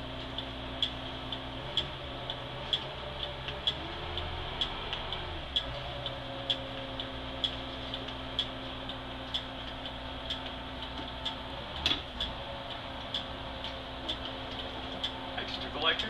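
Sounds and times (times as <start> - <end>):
bus engine humming: 0.0 - 16.0
flasher relay clicking: 0.3 - 15.2.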